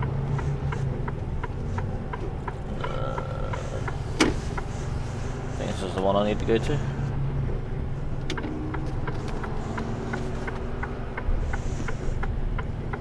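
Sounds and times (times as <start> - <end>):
turn indicator clicking: 0.0 - 6.7, 7.9 - 13.0
diesel lorry engine running low: 0.0 - 13.0.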